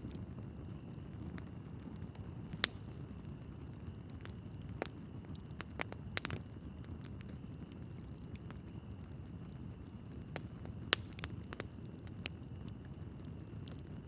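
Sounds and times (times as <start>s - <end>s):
low rush of flame: 0.0s - 14.0s
wood crackling and popping: 0.0s - 14.0s.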